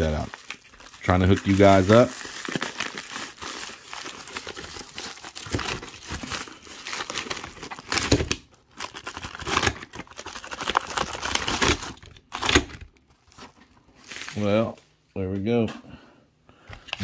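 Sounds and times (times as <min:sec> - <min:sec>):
padded mailer crinkling: 0:00.0 - 0:14.4.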